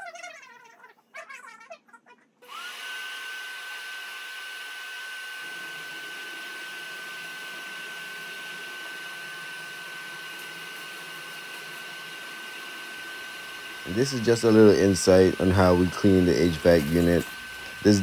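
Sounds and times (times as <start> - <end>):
vacuum cleaner motor whining: 2.4 - 18.0.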